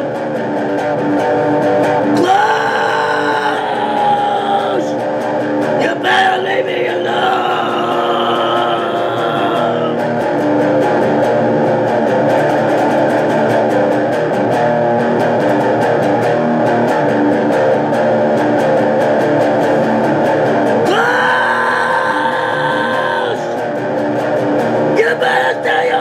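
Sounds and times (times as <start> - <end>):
electric guitar metal riff: 0.0 - 26.0.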